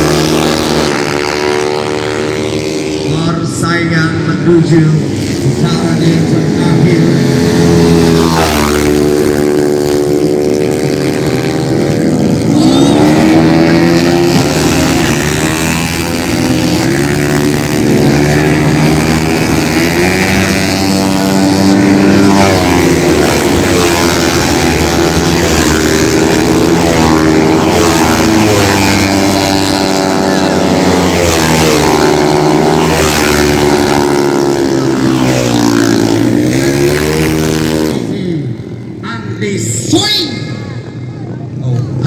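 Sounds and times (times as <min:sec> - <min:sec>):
racing motorcycles passing: 0:00.0 - 0:42.0.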